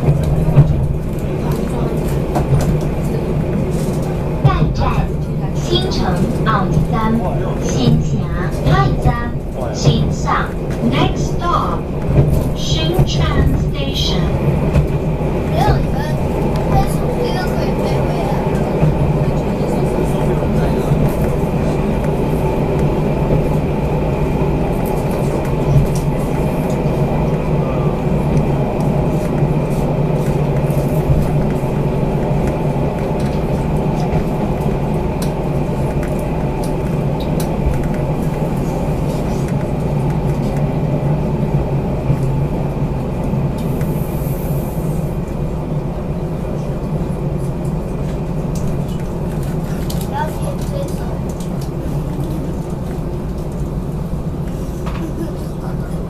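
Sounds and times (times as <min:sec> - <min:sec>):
diesel engine hum: 0:00.0 - 0:56.0
train running noise: 0:00.0 - 0:56.0.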